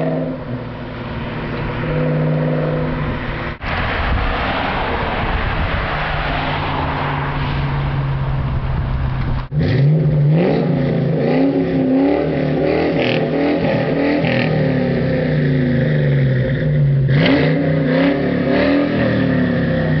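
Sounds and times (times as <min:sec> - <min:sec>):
car engine exhaust revving: 0:00.0 - 0:20.0.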